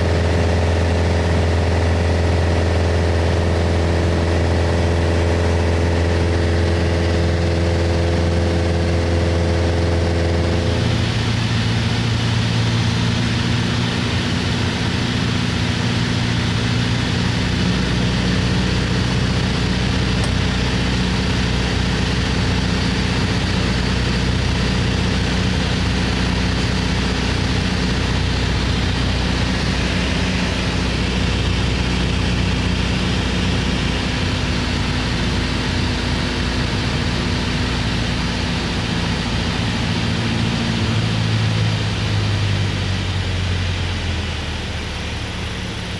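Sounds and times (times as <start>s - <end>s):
propeller airplane engine droning: 0.0s - 45.9s.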